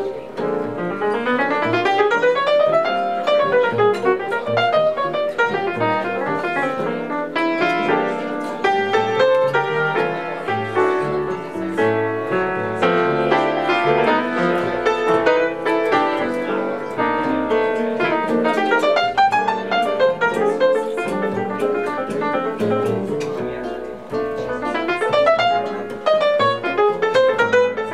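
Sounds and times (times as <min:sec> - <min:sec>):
jazz piano playing: 0:00.0 - 0:27.9.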